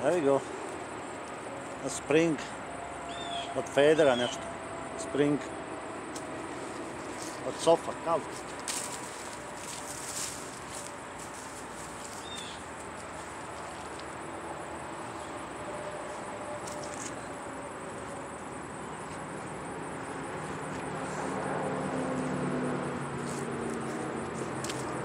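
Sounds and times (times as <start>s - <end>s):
distant traffic hiss: 0.0s - 25.0s
insects trilling: 0.0s - 25.0s
vehicle passing: 0.0s - 25.0s.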